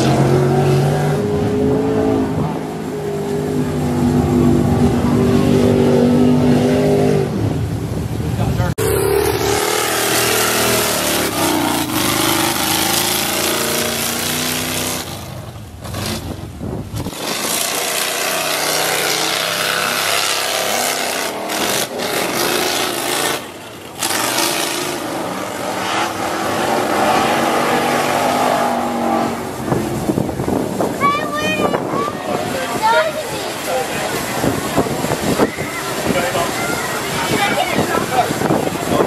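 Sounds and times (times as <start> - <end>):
truck engine revving hard: 0.0 - 7.8, 8.7 - 39.0.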